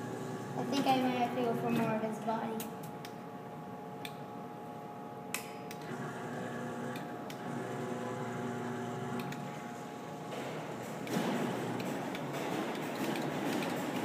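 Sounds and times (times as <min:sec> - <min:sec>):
claw machine electric hum: 0:00.0 - 0:14.0.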